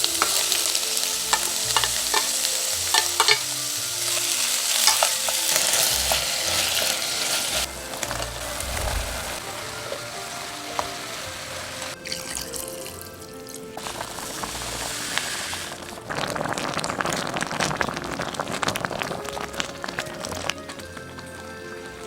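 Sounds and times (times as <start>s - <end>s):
water running: 0.0s - 13.0s, 13.6s - 20.8s
background music: 0.0s - 22.0s
crackling sizzle: 0.0s - 22.0s.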